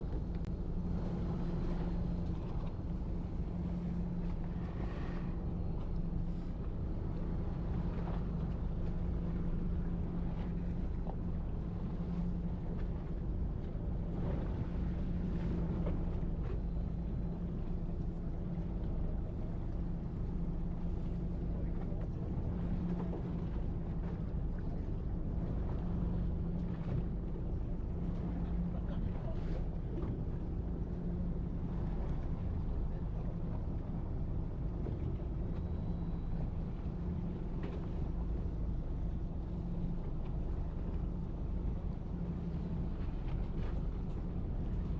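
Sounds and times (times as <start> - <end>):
boat engine humming: 0.0 - 44.9
sea noise: 0.0 - 44.9
wind: 0.0 - 44.9.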